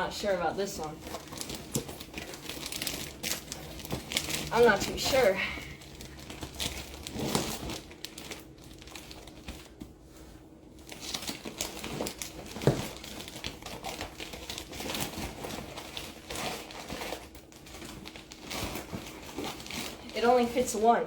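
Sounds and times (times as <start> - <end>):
plastic bag crinkling: 0.0 - 9.8, 10.4 - 21.0.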